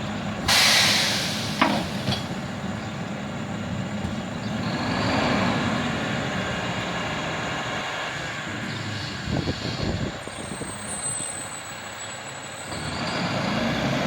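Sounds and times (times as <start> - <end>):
garbage truck running: 0.0 - 14.0.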